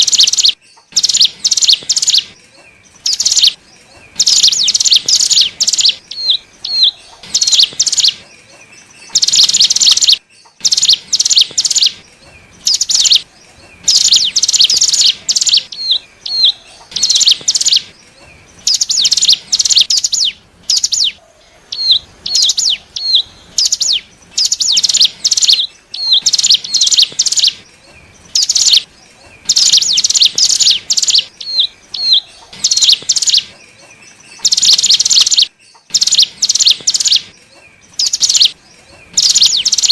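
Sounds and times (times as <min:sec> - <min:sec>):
bird chips: 0:00.0 - 0:21.2, 0:22.3 - 0:39.9
bird singing buzzy high notes: 0:00.0 - 0:21.2, 0:21.9 - 0:33.5, 0:34.1 - 0:39.9.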